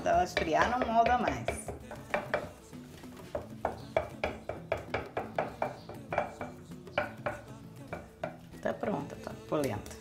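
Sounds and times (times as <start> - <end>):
spoon patting polenta on plate: 0.2 - 8.5.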